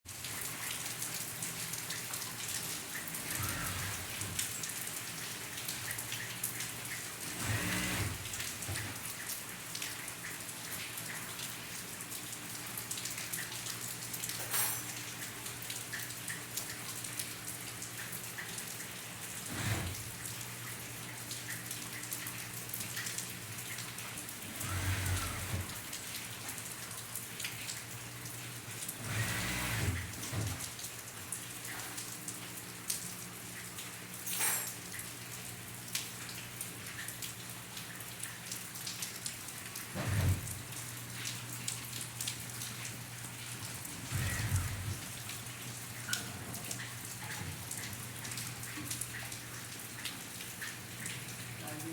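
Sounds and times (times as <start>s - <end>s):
steady rain falling: 0.1s - 51.9s.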